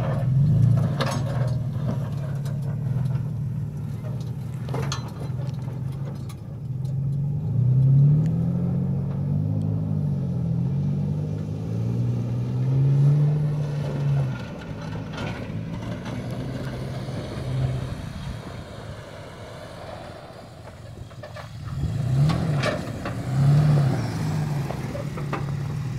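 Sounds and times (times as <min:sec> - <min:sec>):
pickup engine revving: 0:00.0 - 0:25.9.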